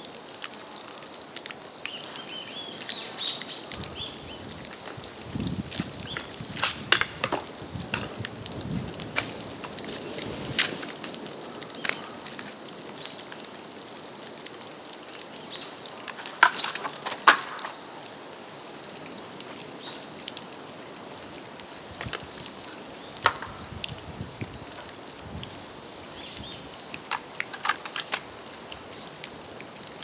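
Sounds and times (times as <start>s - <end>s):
bamboo fire crackling and popping: 0.0s - 30.0s.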